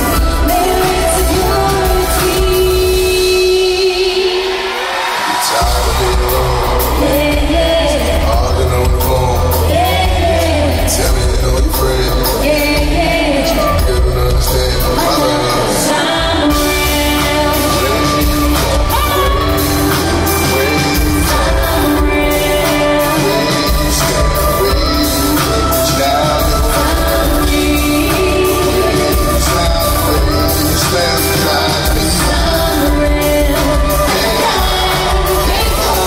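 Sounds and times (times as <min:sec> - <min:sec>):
woman singing: 0:00.0 - 0:04.9, 0:05.9 - 0:08.4, 0:09.6 - 0:11.0, 0:12.4 - 0:13.8, 0:15.0 - 0:36.0
live pop band with heavy bass: 0:00.0 - 0:36.0.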